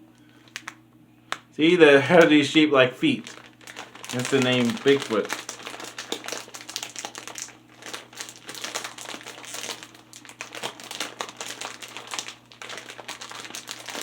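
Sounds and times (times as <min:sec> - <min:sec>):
plastic snack bag crinkling: 0:00.3 - 0:00.8, 0:01.7 - 0:14.0.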